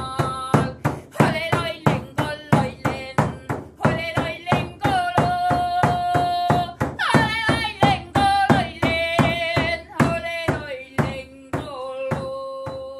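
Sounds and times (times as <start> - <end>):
steady drumbeat: 0.0 - 12.9.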